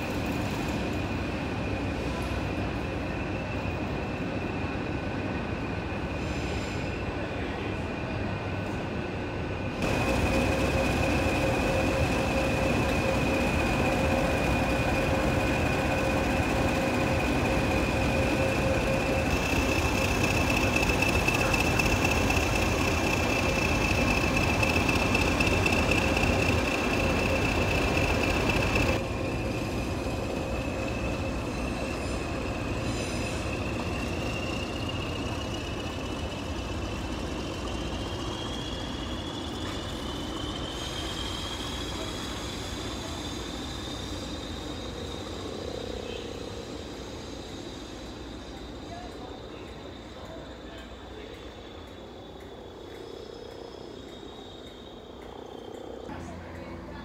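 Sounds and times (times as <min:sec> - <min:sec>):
diesel locomotive engine rumble: 0:00.0 - 0:57.0
high steady whistle: 0:09.8 - 0:56.1.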